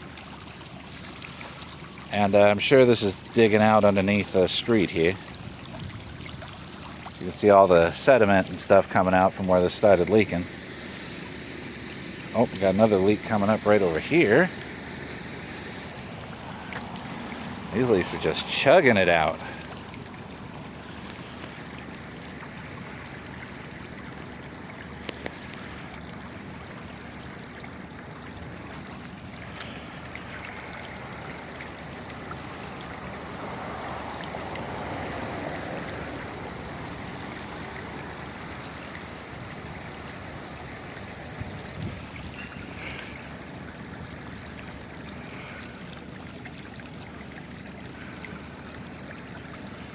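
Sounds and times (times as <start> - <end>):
water rushing flow: 0.0 - 49.9.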